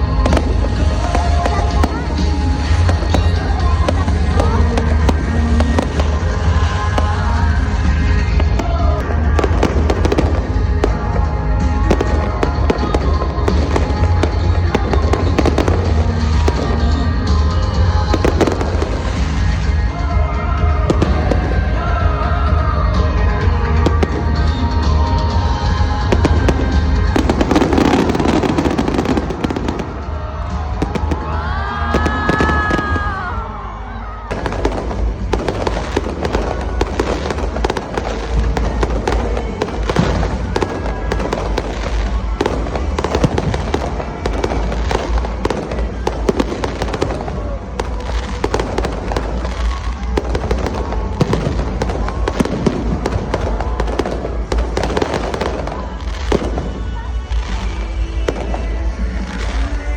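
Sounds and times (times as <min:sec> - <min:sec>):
fireworks bangs and crackling: 0:00.0 - 0:59.9
music playing: 0:00.0 - 0:59.9.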